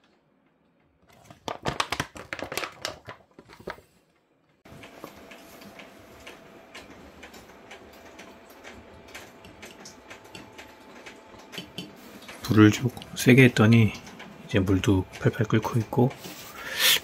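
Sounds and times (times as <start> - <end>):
wood stove crackling: 0.0 - 17.0.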